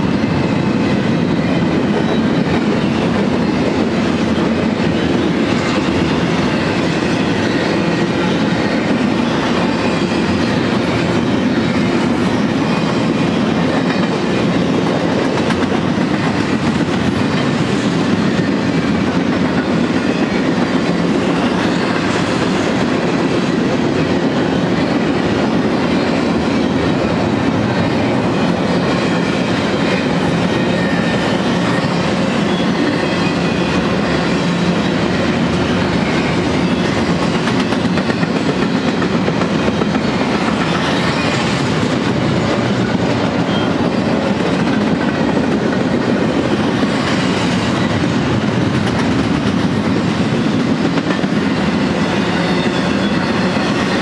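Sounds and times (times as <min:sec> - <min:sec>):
steel train wheels on rail: 0:00.0 - 0:54.0.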